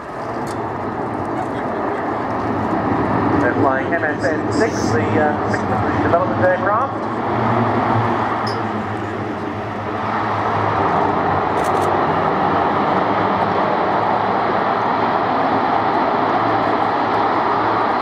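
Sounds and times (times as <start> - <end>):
propeller and turbine drone: 0.0 - 18.0.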